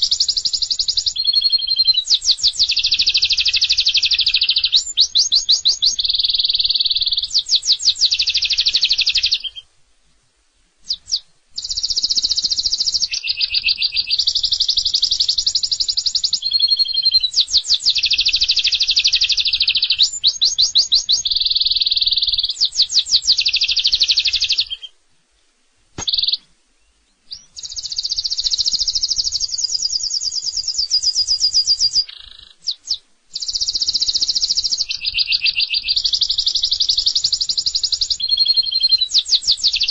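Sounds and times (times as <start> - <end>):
canary singing trills: 0.0 - 9.7, 10.8 - 25.0, 26.0 - 39.9.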